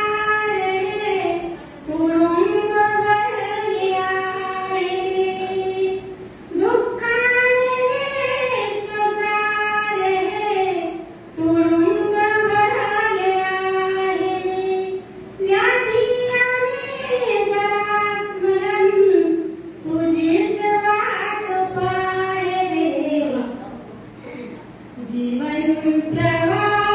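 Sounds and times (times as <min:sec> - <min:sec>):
woman singing devotional song: 0:00.0 - 0:23.6, 0:25.0 - 0:26.9.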